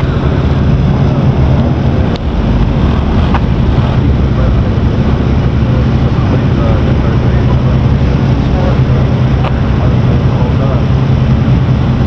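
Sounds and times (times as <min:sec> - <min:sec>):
car engines humming: 0:00.0 - 0:12.0.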